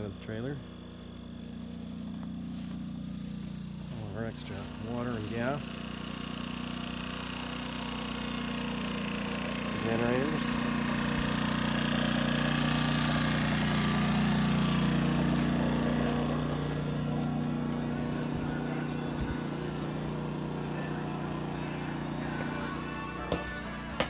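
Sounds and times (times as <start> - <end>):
generator engine hum: 0.0 - 24.0.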